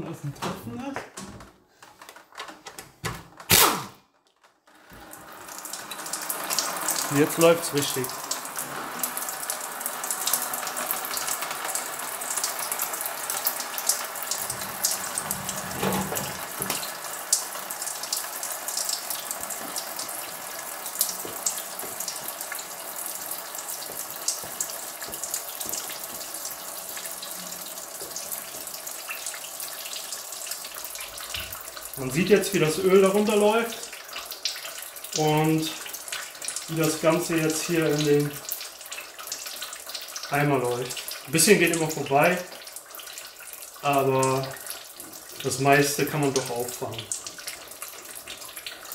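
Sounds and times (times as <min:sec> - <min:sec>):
fluid pouring into tub: 0:04.7 - 0:48.9.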